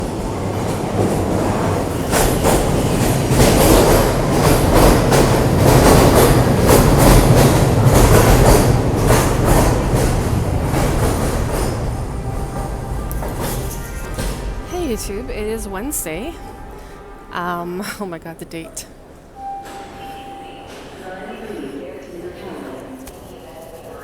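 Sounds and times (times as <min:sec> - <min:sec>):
train rumbling along track: 0:00.0 - 0:22.4.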